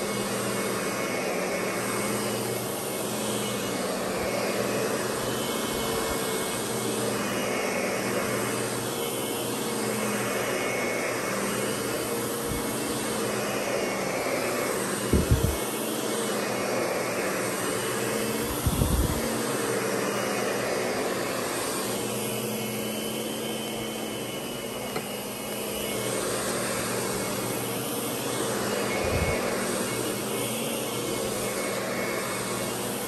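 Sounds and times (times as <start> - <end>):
vacuum cleaner running on carpet: 0.0 - 33.0.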